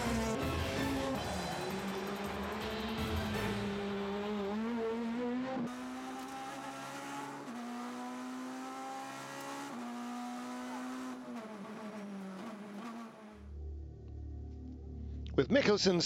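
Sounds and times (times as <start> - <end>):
rally car engine at speed: 0.0 - 13.5.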